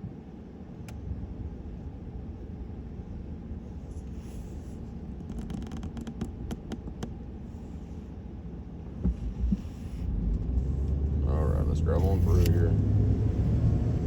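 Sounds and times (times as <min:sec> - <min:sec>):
vehicle idling rumble: 0:00.1 - 0:14.0.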